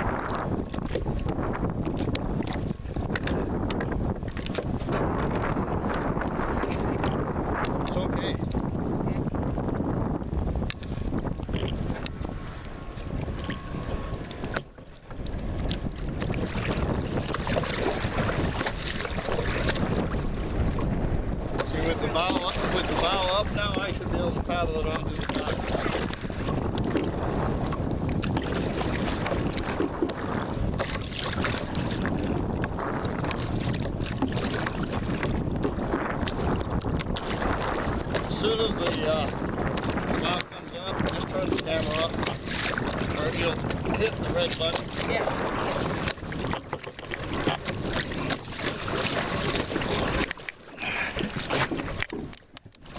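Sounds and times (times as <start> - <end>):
boat knocks and clatter: 0.0 - 52.9
paddle splashing in water: 0.0 - 52.9
water sloshing: 0.0 - 52.9
wind on microphone: 0.0 - 52.9.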